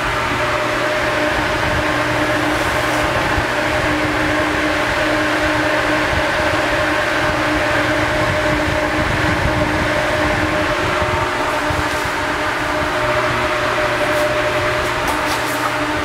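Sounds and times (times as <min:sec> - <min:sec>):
exhaust fan rushing air: 0:00.0 - 0:16.0.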